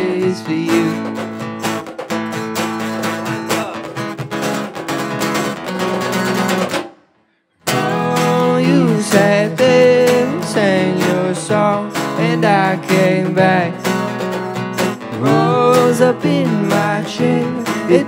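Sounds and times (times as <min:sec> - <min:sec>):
song with strummed acoustic guitar: 0:00.0 - 0:18.0.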